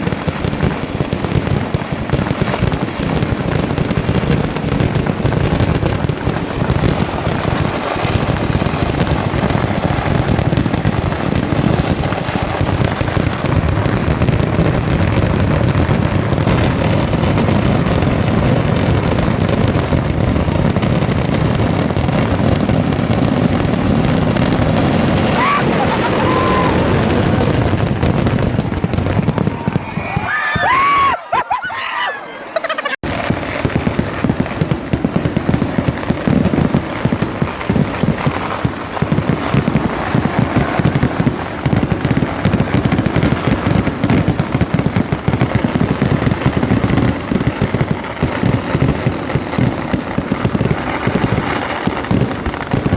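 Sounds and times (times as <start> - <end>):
firecracker explosions barrage: 0.0 - 52.9.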